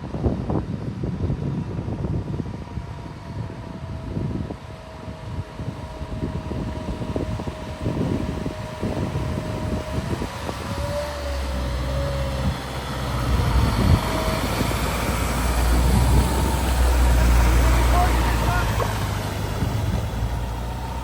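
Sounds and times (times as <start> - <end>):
low hum: 0.3 - 21.0
vehicle engine running: 3.9 - 21.0.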